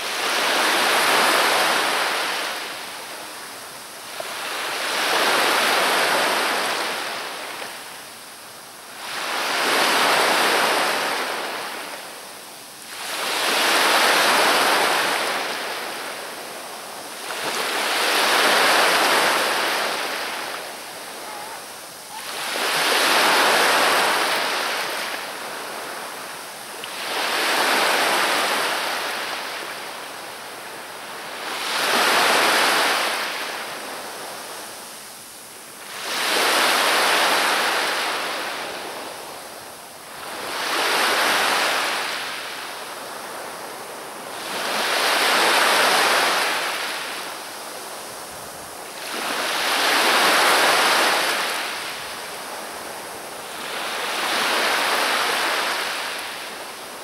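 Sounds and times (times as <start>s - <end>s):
waves breaking and washing back: 0.0s - 57.0s.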